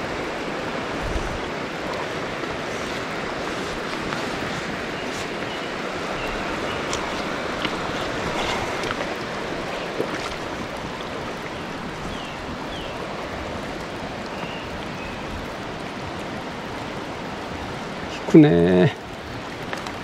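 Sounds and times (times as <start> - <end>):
stream flowing over stones: 0.0 - 20.0.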